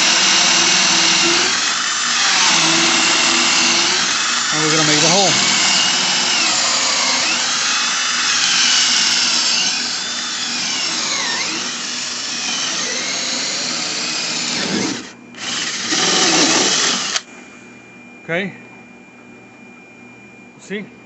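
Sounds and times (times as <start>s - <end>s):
power drill whining: 0.0s - 17.2s.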